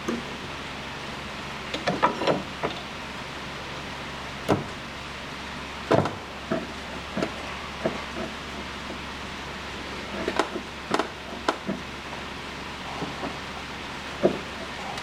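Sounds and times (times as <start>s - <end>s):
shop hum: 0.0s - 15.0s.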